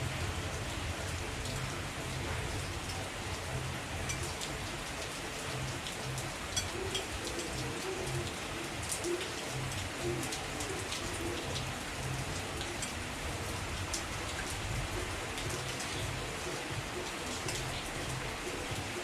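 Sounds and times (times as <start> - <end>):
heavy rain: 0.0 - 19.0
raindrop strikes: 0.0 - 19.0.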